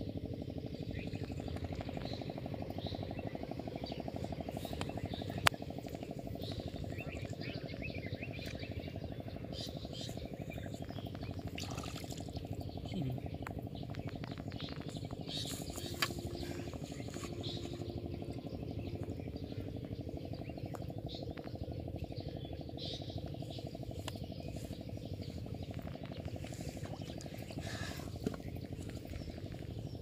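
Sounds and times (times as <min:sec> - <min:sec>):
rapidly pulsing low drone: 0:00.0 - 0:30.0
bird chirps: 0:00.7 - 0:30.0.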